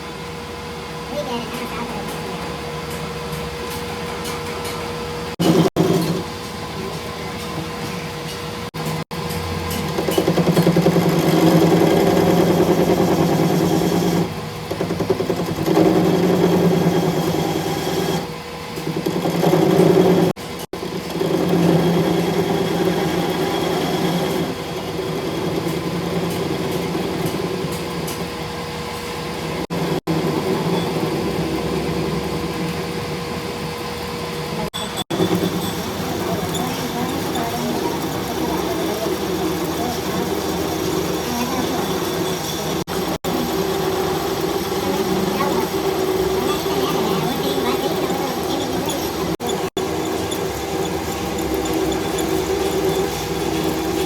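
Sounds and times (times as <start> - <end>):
machinery motor hum: 0.0 - 54.0.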